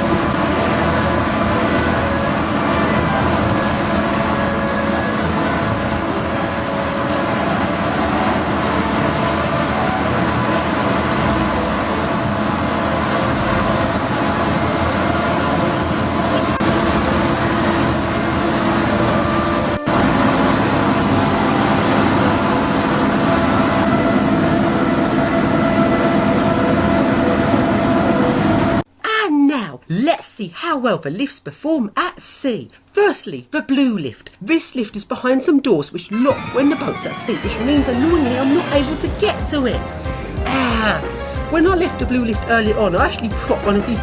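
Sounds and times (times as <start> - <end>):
ferry engines rumbling: 0.0 - 28.8, 36.2 - 44.0.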